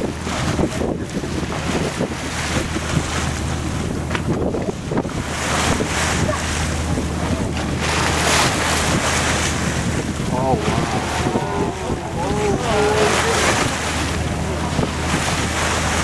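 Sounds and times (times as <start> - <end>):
low engine hum: 0.0 - 16.0
water washing: 0.0 - 16.0
wind buffeting microphone: 0.0 - 16.0.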